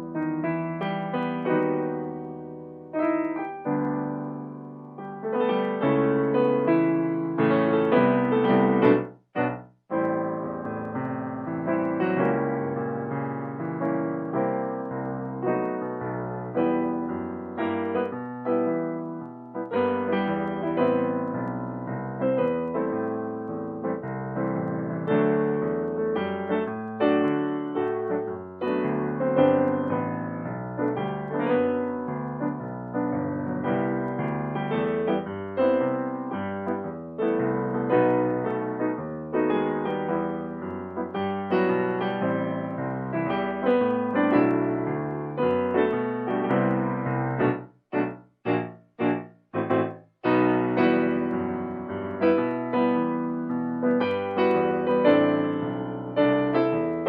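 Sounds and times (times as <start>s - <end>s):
solo piano playing: 0.0s - 57.0s.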